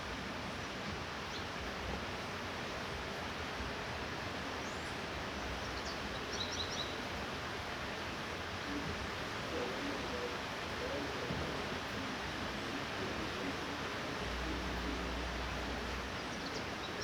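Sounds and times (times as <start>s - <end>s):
light rainfall hissing: 0.0s - 17.0s.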